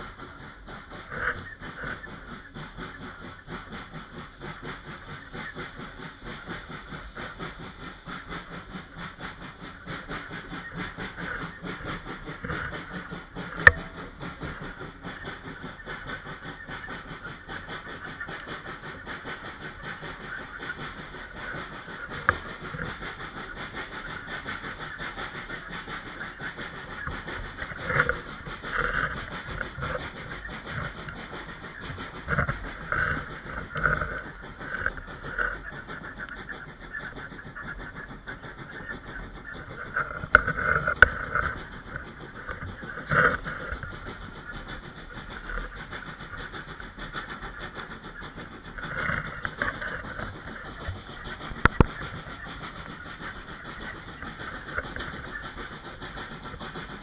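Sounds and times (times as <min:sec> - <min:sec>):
train wheels rumbling on track: 0:00.0 - 0:57.0
sharp clicks: 0:00.4 - 0:57.0.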